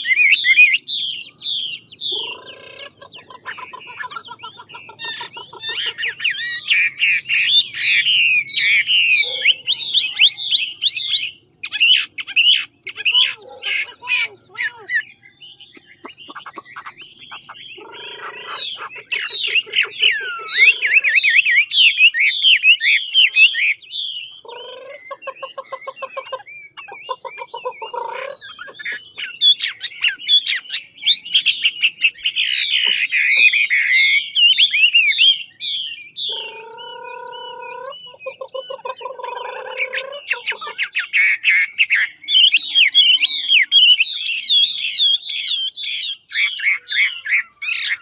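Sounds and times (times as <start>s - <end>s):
bird whistling song: 0.0s - 48.0s
low buzzy bird phrases: 0.0s - 48.0s.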